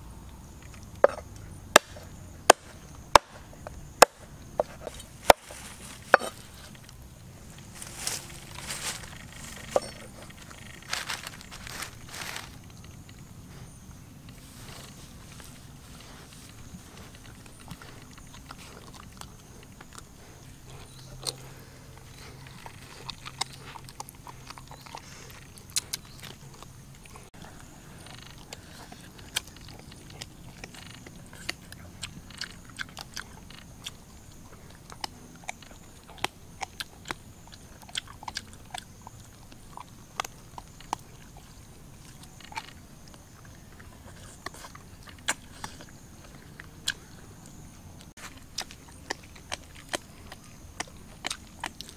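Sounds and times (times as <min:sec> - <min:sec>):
chewing and crunching chicken: 0:02.8 - 0:51.9.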